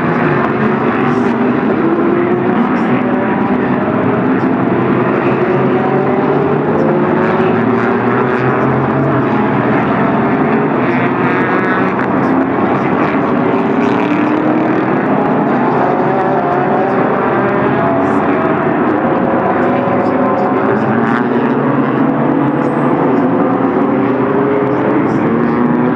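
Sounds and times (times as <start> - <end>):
continuous wash of noise: 0.0 - 25.9
race car engines accelerating: 0.0 - 25.9.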